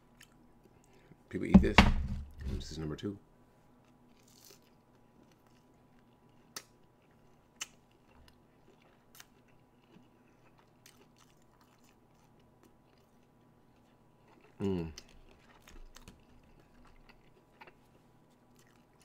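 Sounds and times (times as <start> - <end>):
low steady hum: 0.0 - 19.0
faint chewing: 0.1 - 1.2, 3.7 - 19.0.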